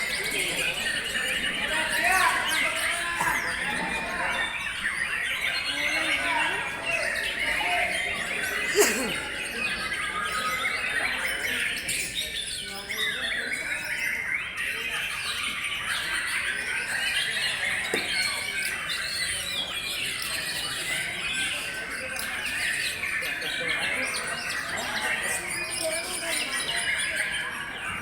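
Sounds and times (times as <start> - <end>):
birds singing whistles and warbles: 0.0 - 28.0.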